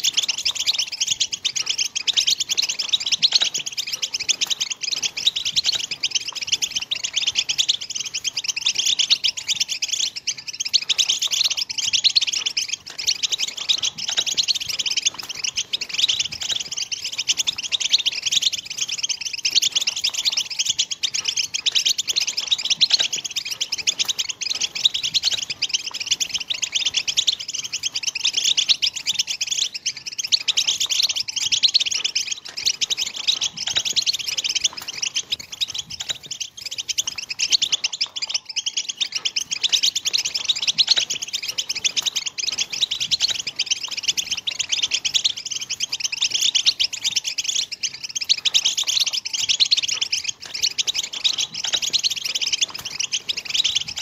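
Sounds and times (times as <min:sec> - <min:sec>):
bird twittering trills: 0:00.0 - 0:54.0.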